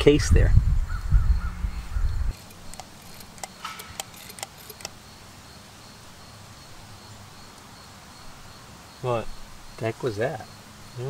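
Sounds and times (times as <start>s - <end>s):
high insect trill: 1.4s - 11.0s.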